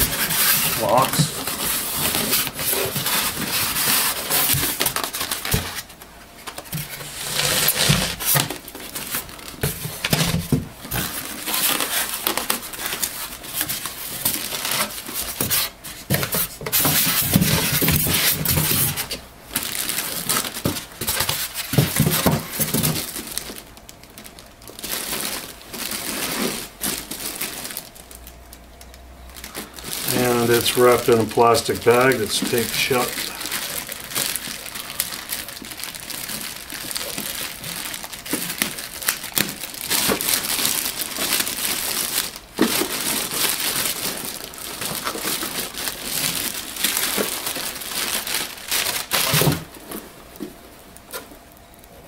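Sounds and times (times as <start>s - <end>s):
plastic bag crinkling: 0.0s - 52.0s.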